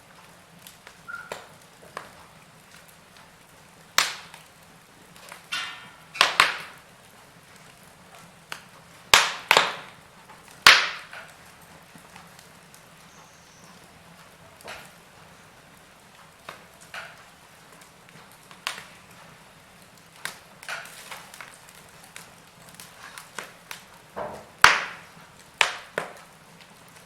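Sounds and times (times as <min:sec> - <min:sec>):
logs crackling and popping: 0:00.0 - 0:27.0.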